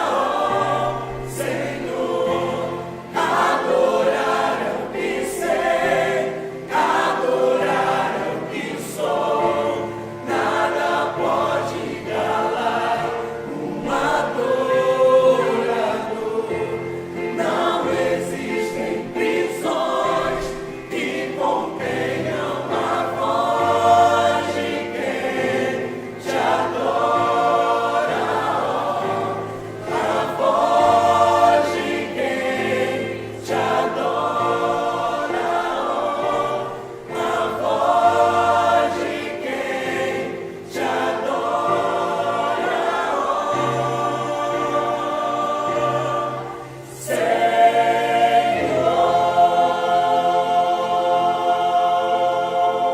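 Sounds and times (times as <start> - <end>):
choir singing a hymn: 0.0 - 52.9.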